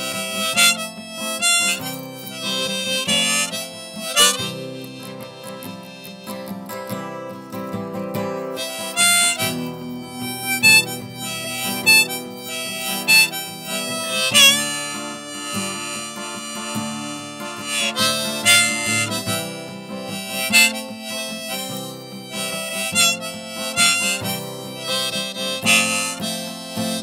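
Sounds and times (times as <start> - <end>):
acoustic guitar accompaniment: 0.0 - 27.0
harmonica playing: 0.0 - 27.0.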